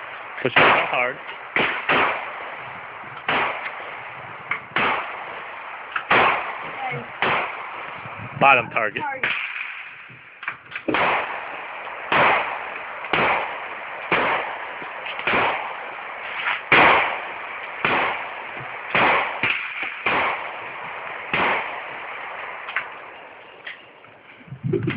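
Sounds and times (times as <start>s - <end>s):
loud gunshots: 0.2s - 10.1s, 10.8s - 23.3s.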